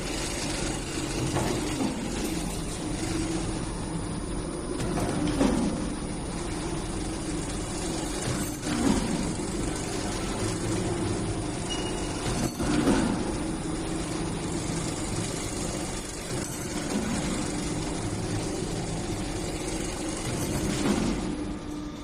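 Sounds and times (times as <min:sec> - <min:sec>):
machine motor hum: 0:00.0 - 0:22.0
wire feeding through rollers: 0:00.0 - 0:22.0.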